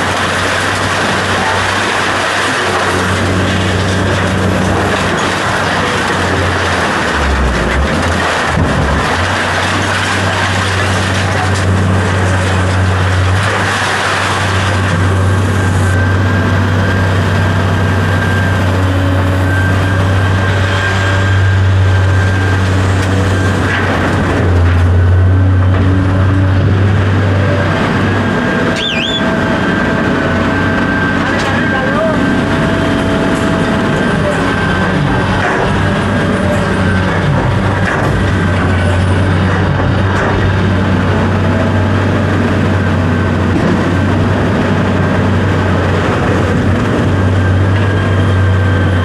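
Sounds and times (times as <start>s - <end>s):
motor vehicle running: 0.0s - 49.0s.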